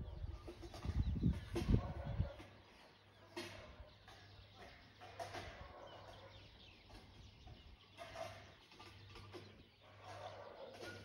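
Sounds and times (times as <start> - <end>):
distant birds calling: 0.0 - 11.0.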